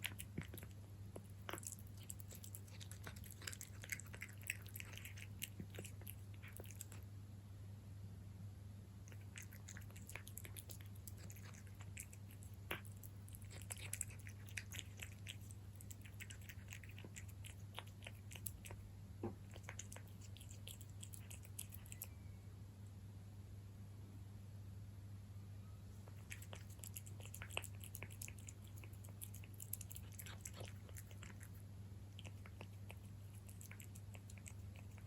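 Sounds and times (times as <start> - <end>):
cat chewing wet food: 0.0 - 7.1, 9.0 - 22.2, 26.0 - 35.0
low hum: 0.1 - 35.0.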